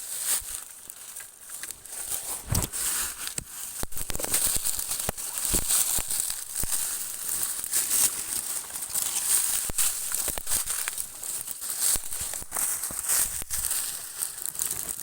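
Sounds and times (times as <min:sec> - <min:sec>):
leaves and twigs rustling and snapping: 0:00.0 - 0:15.0
steady high hiss: 0:01.7 - 0:14.5.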